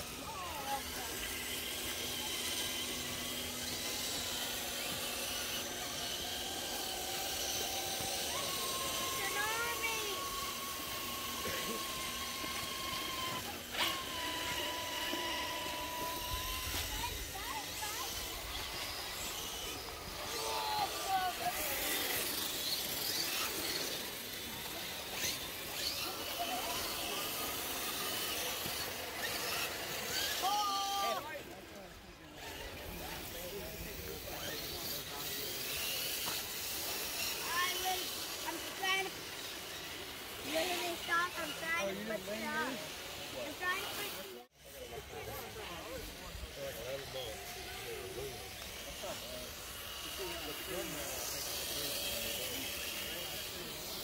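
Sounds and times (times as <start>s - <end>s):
electric motor whining: 0.0s - 54.0s.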